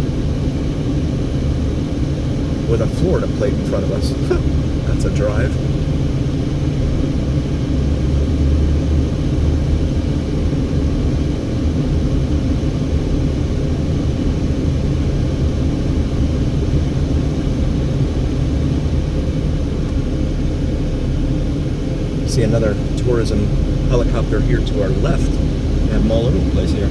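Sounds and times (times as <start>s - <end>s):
car engine and tyres rumbling: 0.0s - 26.9s.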